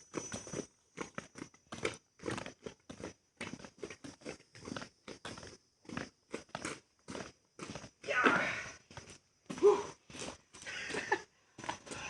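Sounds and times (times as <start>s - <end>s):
crunches and rustles in dry soil: 0.0s - 12.0s.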